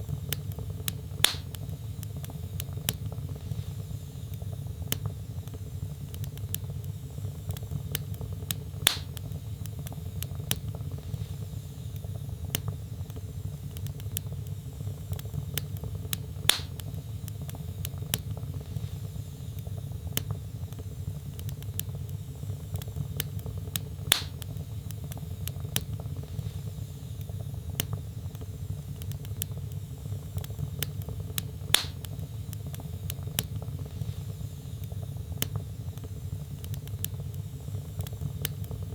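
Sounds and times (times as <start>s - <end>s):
fire crackling: 0.0s - 38.9s
fire popping: 0.0s - 38.9s
low rumble of flames: 0.0s - 38.9s.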